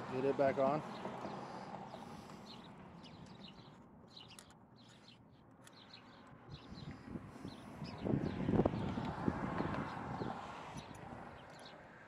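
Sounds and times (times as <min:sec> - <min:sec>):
songbirds chirping: 0:00.1 - 0:12.0.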